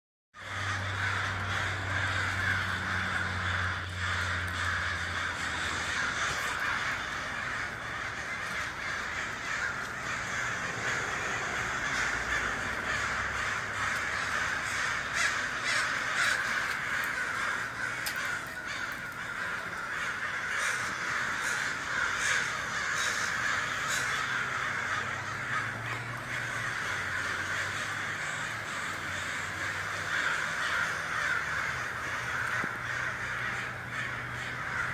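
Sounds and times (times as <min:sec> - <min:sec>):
flock of crows cawing: 0:00.4 - 0:34.9.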